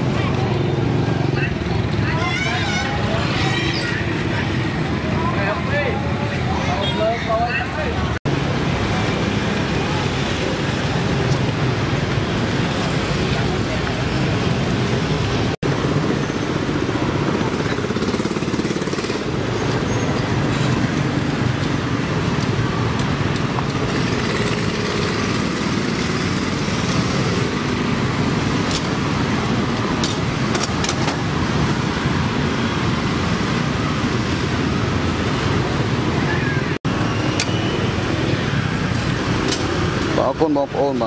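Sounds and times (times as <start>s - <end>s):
motorbikes and cars passing: 0.0s - 41.0s.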